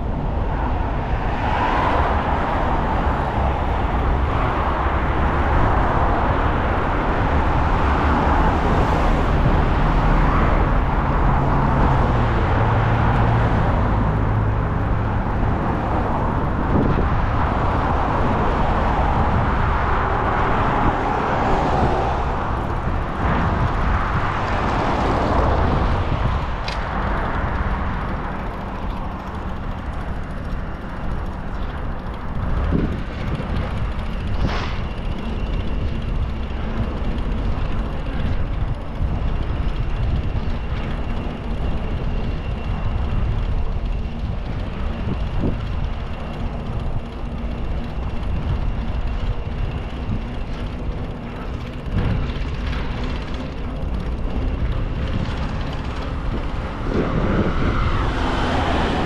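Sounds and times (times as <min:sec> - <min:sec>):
road noise: 0:00.0 - 0:59.0
traffic: 0:00.0 - 0:59.0
wind buffeting microphone: 0:00.0 - 0:59.0.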